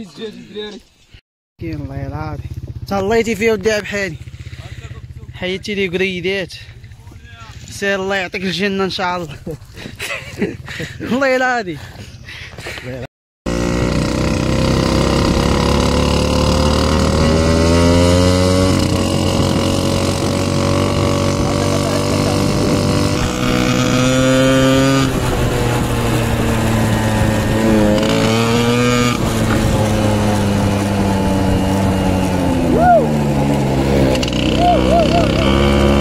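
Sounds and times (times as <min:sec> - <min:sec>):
small motorcycle engine running: 0:01.6 - 0:08.1, 0:13.5 - 0:36.0.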